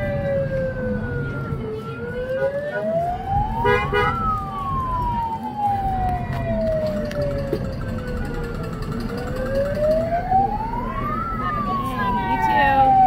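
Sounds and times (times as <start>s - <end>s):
car rumbling slowly: 0.0s - 13.0s
siren wailing: 0.0s - 13.0s.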